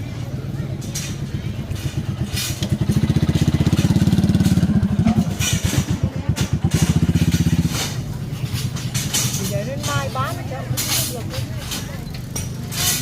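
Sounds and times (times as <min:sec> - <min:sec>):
motorbike engine running: 0:00.0 - 0:10.9.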